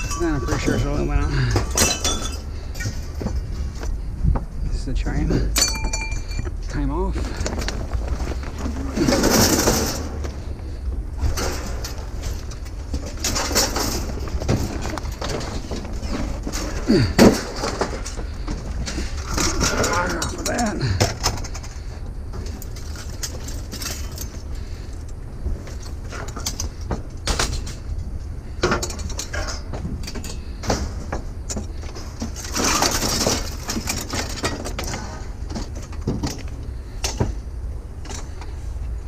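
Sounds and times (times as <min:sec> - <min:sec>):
metal scraping rattle: 0:00.0 - 0:04.0, 0:05.2 - 0:37.4
steady low rumble: 0:00.0 - 0:32.4.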